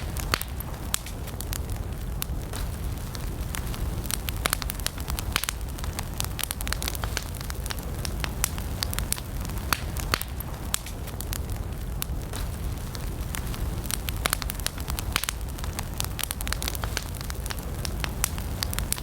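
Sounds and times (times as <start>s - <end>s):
burning logs crackling and popping: 0.0s - 19.0s
campfire flames rumbling: 0.0s - 19.0s.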